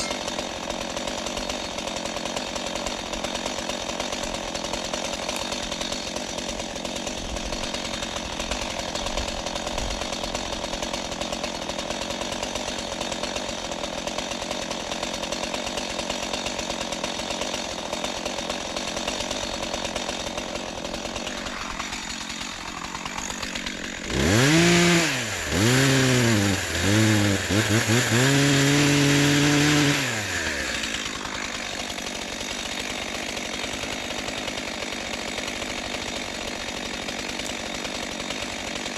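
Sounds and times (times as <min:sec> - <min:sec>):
chainsaw cutting tree trunk: 0:00.0 - 0:38.9
chainsaw idling and revving: 0:00.0 - 0:38.9.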